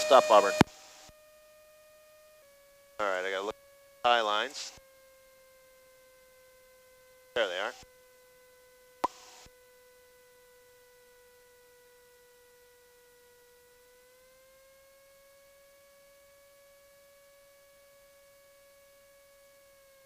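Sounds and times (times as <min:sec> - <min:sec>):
faint headset intercom whine: 0:00.0 - 0:20.0.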